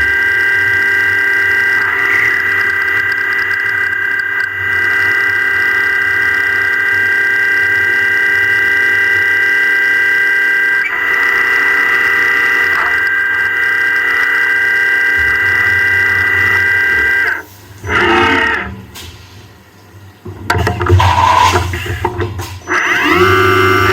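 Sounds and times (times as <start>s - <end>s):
milling machine whining: 0.0s - 19.1s, 20.3s - 23.9s.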